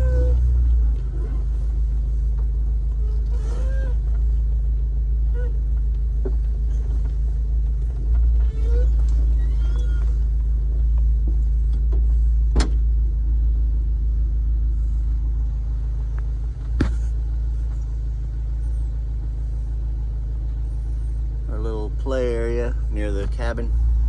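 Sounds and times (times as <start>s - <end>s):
engine and drivetrain rumble: 0.0s - 24.0s.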